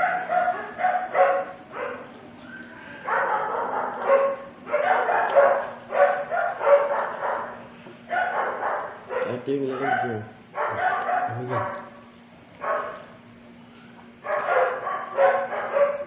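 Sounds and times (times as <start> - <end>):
dog barking: 0.0 - 2.1, 3.0 - 13.2, 14.2 - 16.0.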